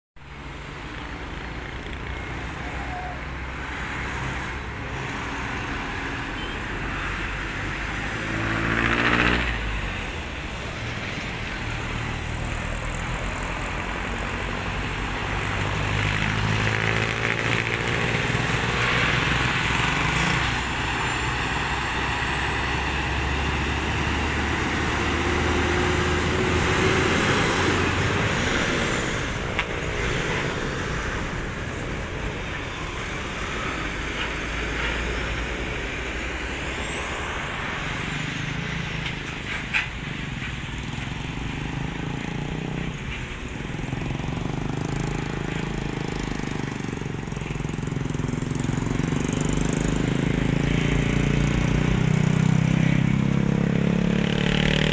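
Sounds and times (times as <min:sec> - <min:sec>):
truck diesel engine: 0:00.2 - 0:54.9
vehicle pulling away: 0:07.0 - 0:10.3, 0:11.3 - 0:39.5, 0:40.8 - 0:54.9
vehicle passing close: 0:07.0 - 0:54.9.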